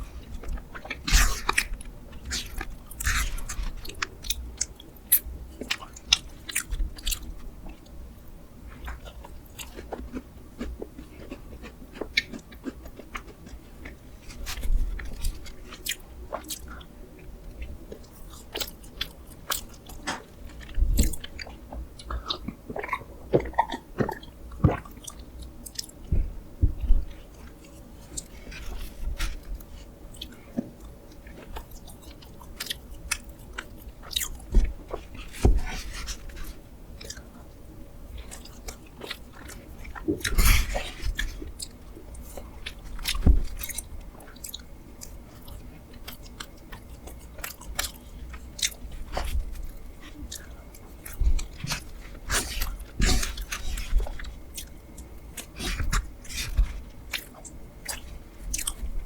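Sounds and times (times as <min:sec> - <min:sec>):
chewing and biting: 0:00.2 - 0:08.0, 0:08.7 - 0:37.4, 0:38.2 - 0:59.0.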